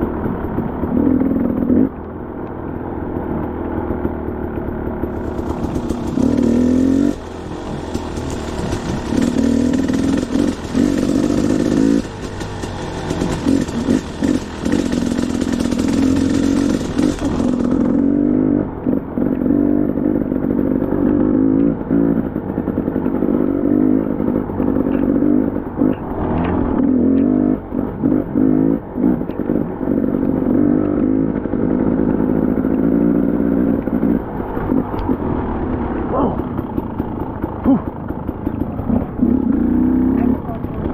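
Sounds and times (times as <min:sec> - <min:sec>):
dirt bike engine revving: 0:04.1 - 0:40.9.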